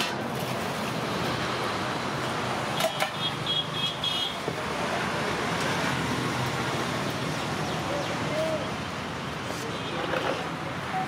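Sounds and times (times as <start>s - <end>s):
roadside traffic: 0.0s - 11.0s.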